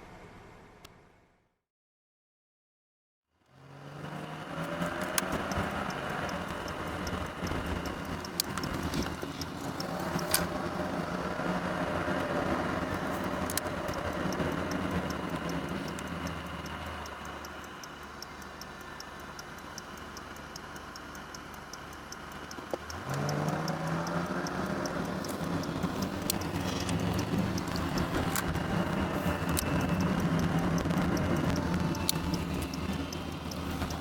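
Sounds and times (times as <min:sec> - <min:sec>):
car engine accelerating: 0:03.4 - 0:34.0
turn signal ticking: 0:03.8 - 0:34.0.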